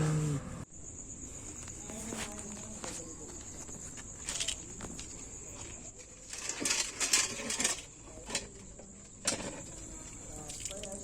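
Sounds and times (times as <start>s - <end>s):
crickets shrilling: 0.1s - 11.0s.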